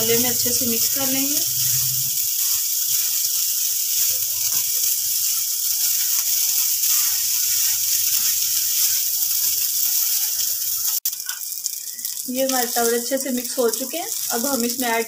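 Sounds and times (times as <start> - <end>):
rice sizzling in frying pan: 0.0 - 15.0.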